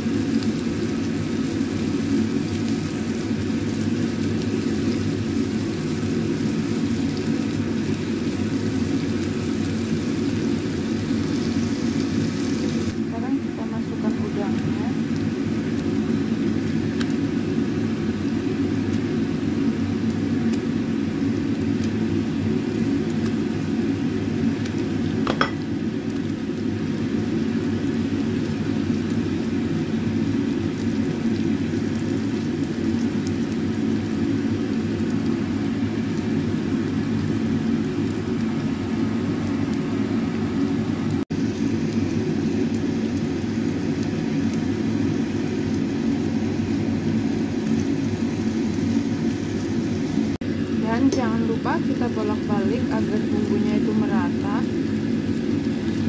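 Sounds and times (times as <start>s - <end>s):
loud steady low whir: 0.0s - 56.0s
shrimp sizzling in a wok: 0.0s - 56.0s.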